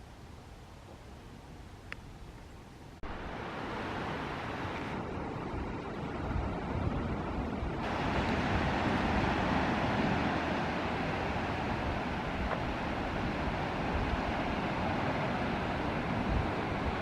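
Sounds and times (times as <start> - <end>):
wind buffeting microphone: 0.1 - 17.0.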